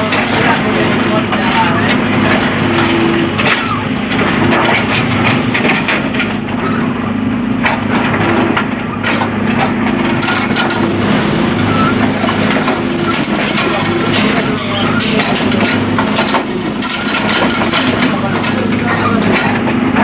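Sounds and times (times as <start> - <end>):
digger diesel engine running: 0.0 - 20.0.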